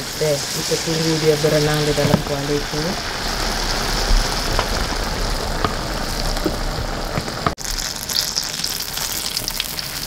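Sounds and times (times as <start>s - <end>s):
food deep-frying in hot oil: 0.0s - 10.0s.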